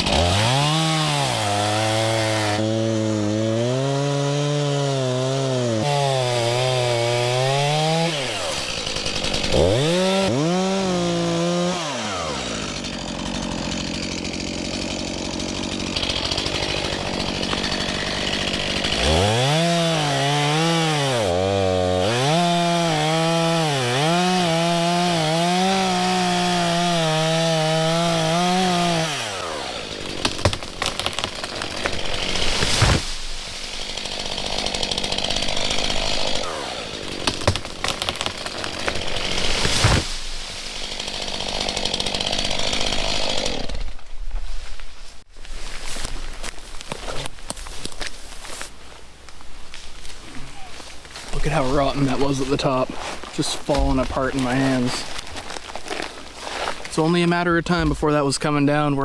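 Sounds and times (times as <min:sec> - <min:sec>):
chainsaw cutting wood: 0:00.0 - 0:44.4, 0:45.4 - 0:59.0
tree trunk cracking and snapping: 0:00.0 - 0:58.9.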